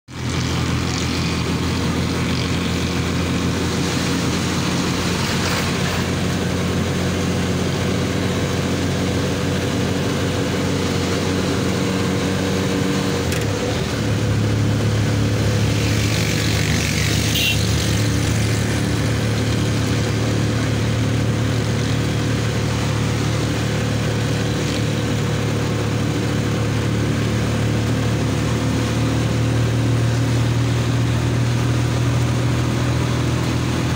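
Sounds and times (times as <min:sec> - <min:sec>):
road noise: 0:00.0 - 0:33.9
vehicle engine running: 0:00.1 - 0:33.9.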